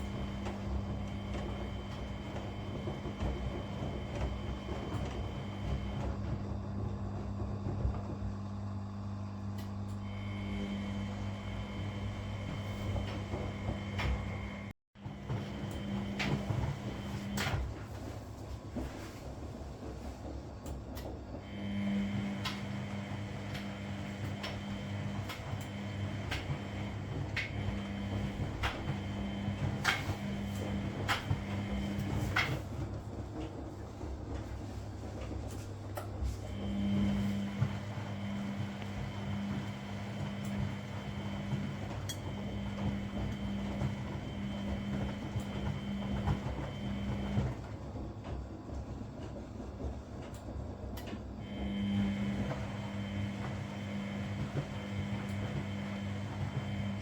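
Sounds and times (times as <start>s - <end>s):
washing machine motor hum: 0.0s - 57.0s
washing machine rumble: 0.0s - 57.0s.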